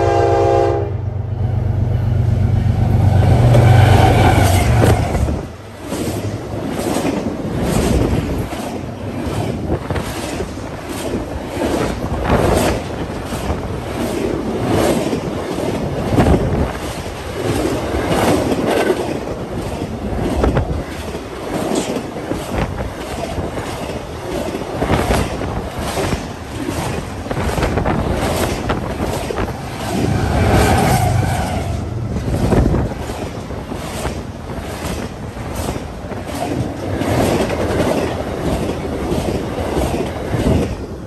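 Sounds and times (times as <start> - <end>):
freight train rolling past: 0.0 - 41.0
wind buffeting microphone: 2.8 - 41.0
steel wheels clicking over rail joints: 4.6 - 31.0, 32.1 - 41.0.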